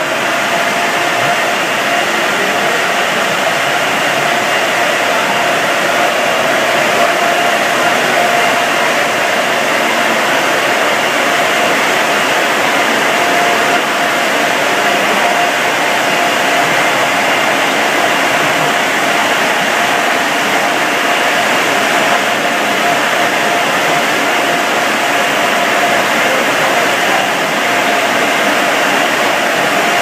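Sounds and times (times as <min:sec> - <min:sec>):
air-dryer blowers rushing: 0:00.0 - 0:30.0
faint steady whine: 0:00.0 - 0:30.0.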